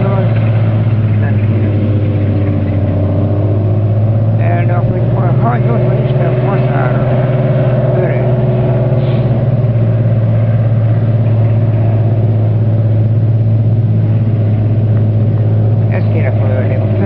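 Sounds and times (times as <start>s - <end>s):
harvester engine droning: 0.0s - 17.0s.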